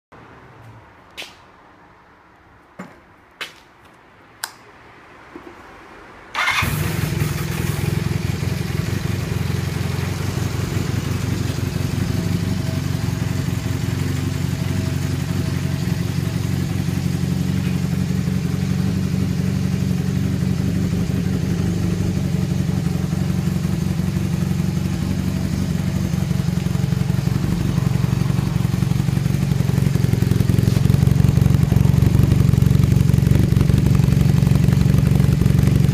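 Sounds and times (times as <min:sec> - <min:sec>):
motorcycle engine idling: 0:06.4 - 0:35.9.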